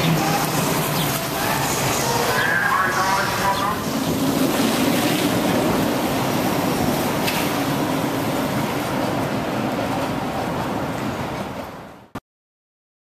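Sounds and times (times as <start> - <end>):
train rumbling on rails: 0.0 - 12.2.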